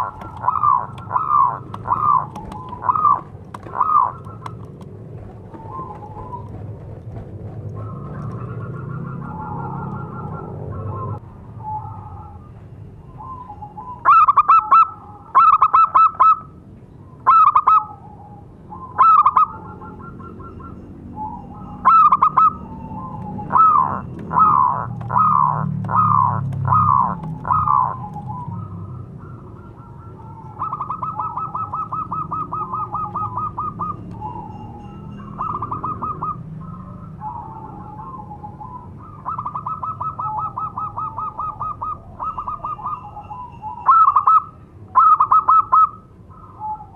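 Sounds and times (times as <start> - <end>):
dove cooing: 0.0 - 16.6, 17.2 - 46.9.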